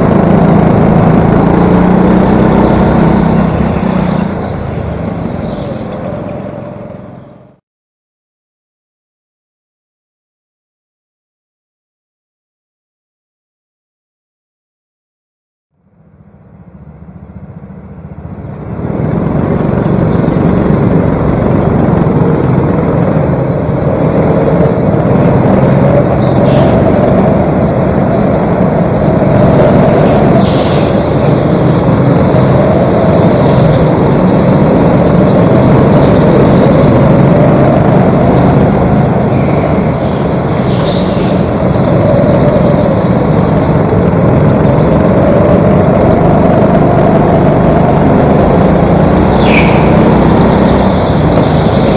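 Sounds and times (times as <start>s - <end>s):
go-kart engine running: 0.0s - 7.6s, 15.8s - 51.9s
other go-kart engines: 0.0s - 7.6s, 15.8s - 51.9s.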